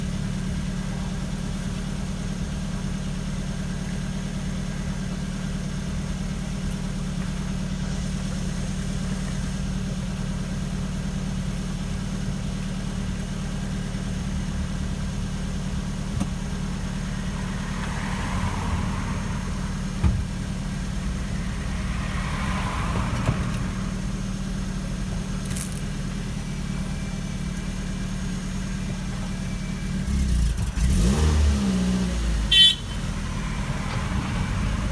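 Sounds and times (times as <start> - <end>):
car engine low hum: 0.0 - 34.9.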